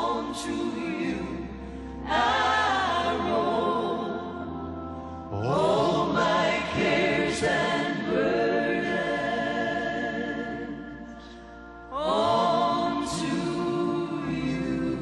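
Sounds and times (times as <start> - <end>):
choir backing: 0.0 - 15.0.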